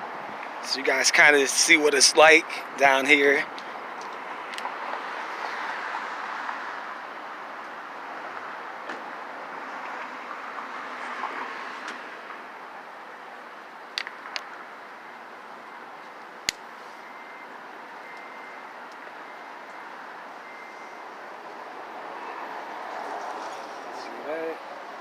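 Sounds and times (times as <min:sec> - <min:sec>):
outdoor rushing background noise: 0:00.0 - 0:25.0.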